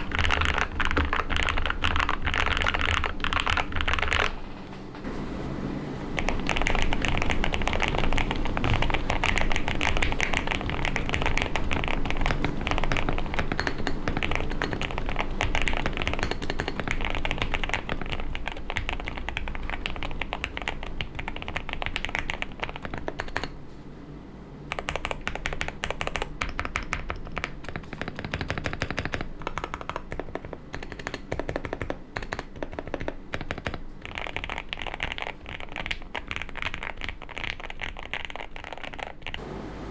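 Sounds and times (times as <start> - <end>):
mechanical keyboard typing: 0.0 - 5.0, 6.2 - 23.6, 24.7 - 39.4.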